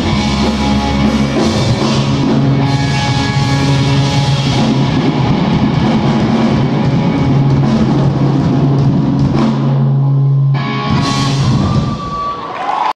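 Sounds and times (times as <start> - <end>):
live rock band playing: 0.0 - 12.8.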